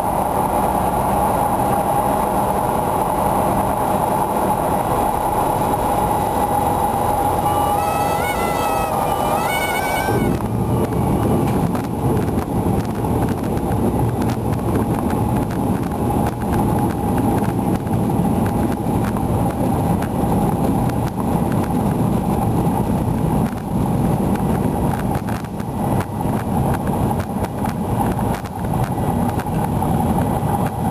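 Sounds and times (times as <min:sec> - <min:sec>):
aircraft engine running at low power: 0:00.0 - 0:30.9.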